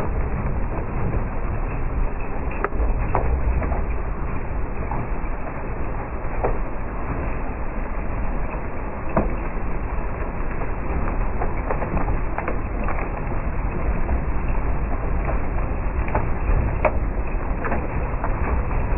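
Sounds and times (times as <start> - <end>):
hailstones ticking on hard surfaces: 0.0 - 18.9
heavy rain pouring: 0.0 - 18.9
wind rumbling on microphone: 0.0 - 18.9.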